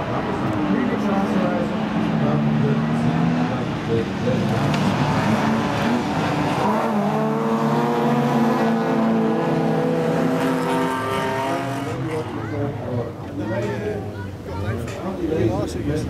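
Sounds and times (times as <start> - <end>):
race cars passing at high revs: 0.0 - 14.0.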